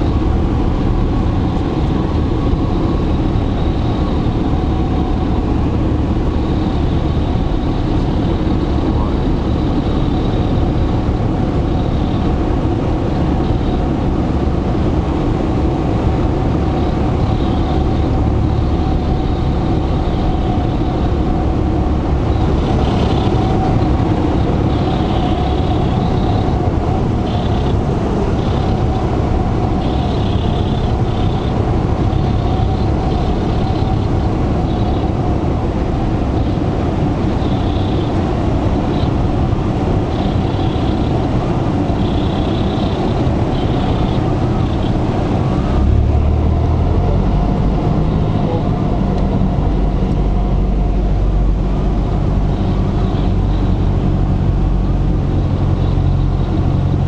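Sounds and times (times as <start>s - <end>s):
airplane engine drone: 0.0s - 57.0s.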